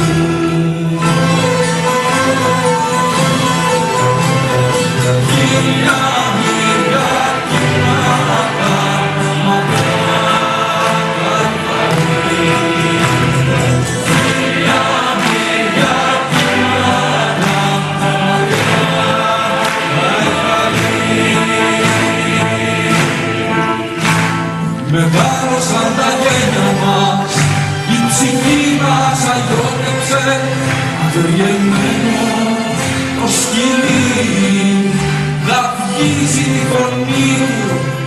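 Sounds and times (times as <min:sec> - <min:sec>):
choir-like singing: 0:00.0 - 0:38.0
instrumental accompaniment: 0:00.0 - 0:38.0.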